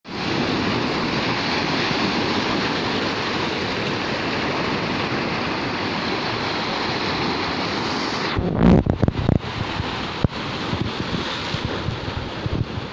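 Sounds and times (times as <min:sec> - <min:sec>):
sea waves washing over rocks: 0:00.1 - 0:12.9.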